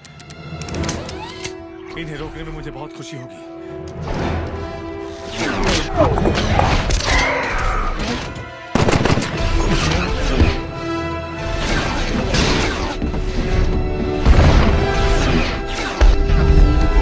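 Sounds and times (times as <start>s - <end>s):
orchestral score: 0.0s - 17.0s.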